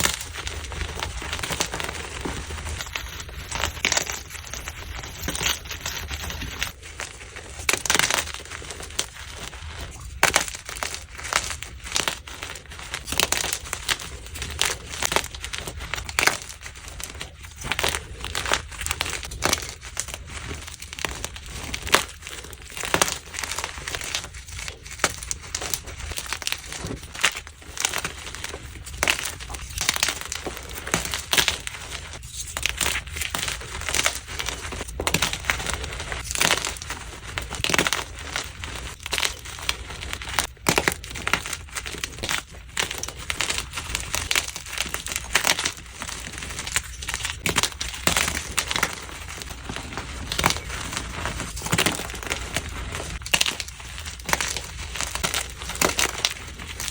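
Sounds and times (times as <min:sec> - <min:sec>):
chalk crushing and crackling: 0:00.0 - 0:56.9.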